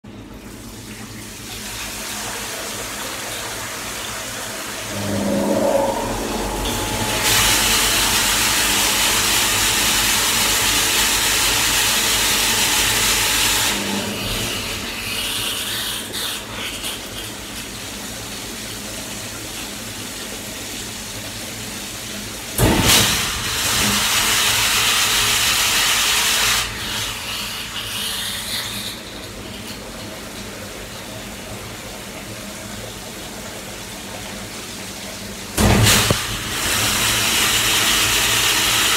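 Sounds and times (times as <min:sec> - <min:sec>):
water gushing onto metal grate: 0:00.2 - 0:05.2, 0:06.0 - 0:38.9.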